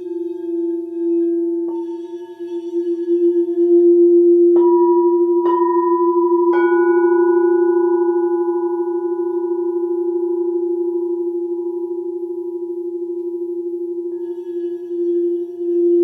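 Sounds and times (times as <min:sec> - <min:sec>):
singing bowl low pulsing tone: 0:00.0 - 0:16.0
singing bowls struck ringing: 0:00.0 - 0:16.0.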